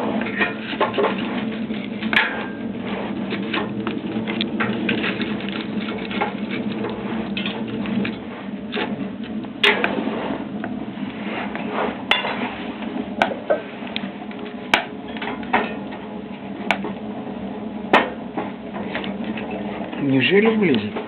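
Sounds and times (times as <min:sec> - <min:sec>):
wood fire crackling in stove: 0:00.0 - 0:21.0.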